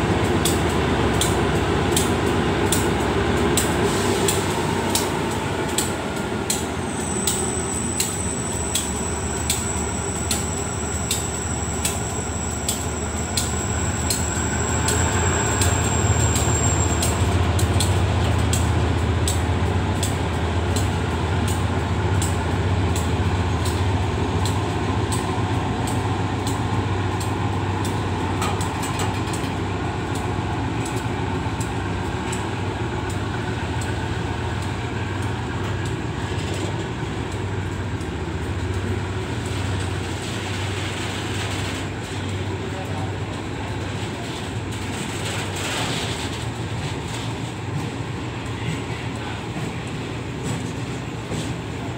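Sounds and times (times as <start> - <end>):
diesel locomotive engine rumble: 0.0 - 51.9
train wheels clacking on rails: 0.0 - 51.9.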